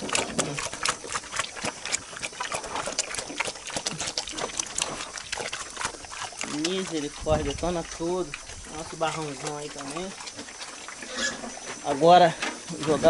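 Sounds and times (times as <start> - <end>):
pig grunt: 0.0 - 13.0
pigs crunching corn: 0.0 - 13.0.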